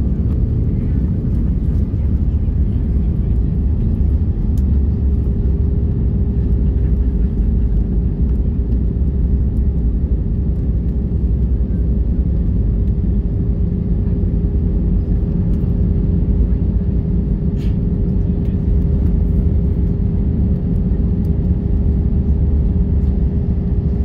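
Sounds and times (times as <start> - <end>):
constant cabin hum: 0.0 - 24.0
engine and wheel rumble: 0.0 - 24.0.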